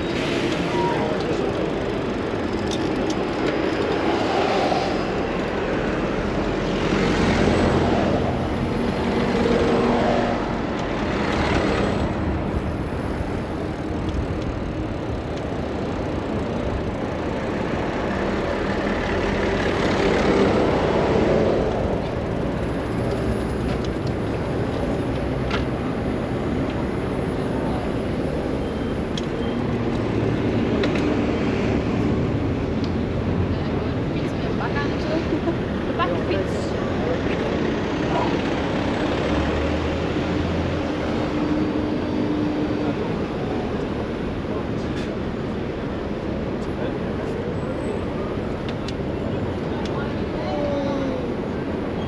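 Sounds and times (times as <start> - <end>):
city road traffic rumble: 0.0 - 52.0
vehicles passing: 0.0 - 52.0.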